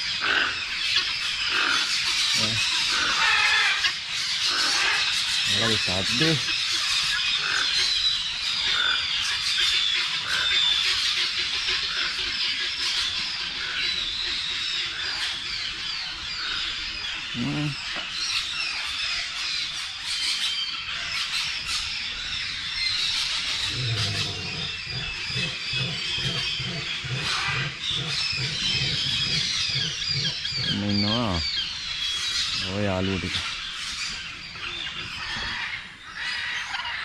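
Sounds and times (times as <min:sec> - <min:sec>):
low rapidly pulsing bird call: 0:00.0 - 0:37.0
small birds chirping: 0:00.0 - 0:37.0.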